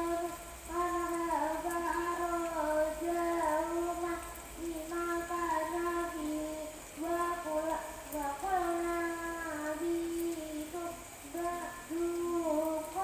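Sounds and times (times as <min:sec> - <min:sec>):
high young voice singing: 0:00.0 - 0:13.0.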